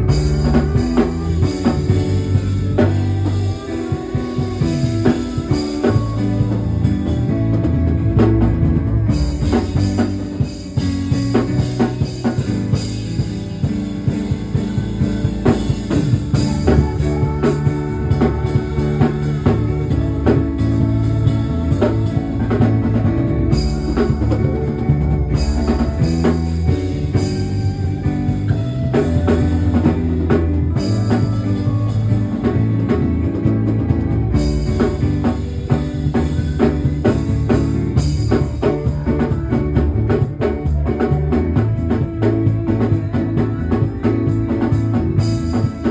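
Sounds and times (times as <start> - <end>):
instrumental band music: 0.0 - 45.9.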